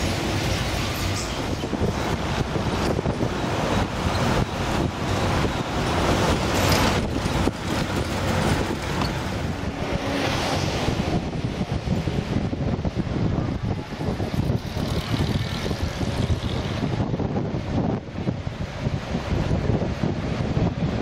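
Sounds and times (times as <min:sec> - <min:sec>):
car engine rumble: 0:00.0 - 0:21.0
tyre and road noise: 0:00.0 - 0:21.0
wind: 0:00.0 - 0:21.0.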